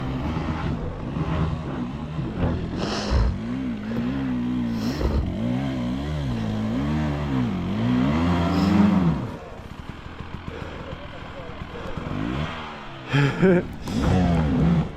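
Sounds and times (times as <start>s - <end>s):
dirt bike engine revving: 0.0s - 14.9s.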